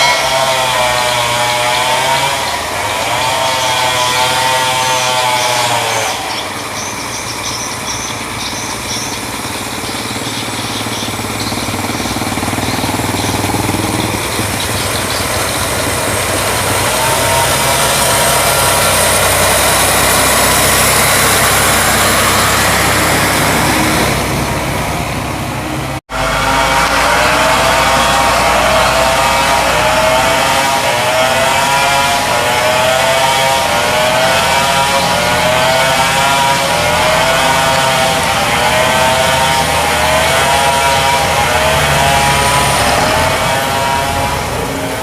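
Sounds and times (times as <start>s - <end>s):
truck engine revving under load: 0.0s - 45.0s.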